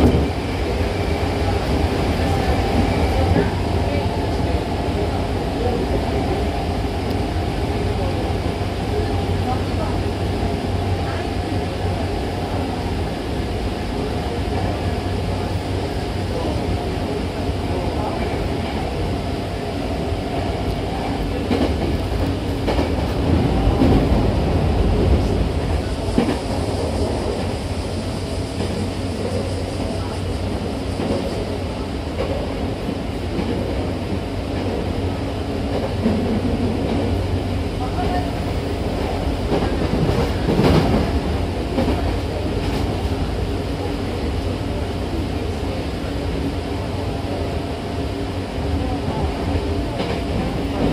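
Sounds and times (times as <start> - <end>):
train rumble inside carriage: 0.0 - 50.9.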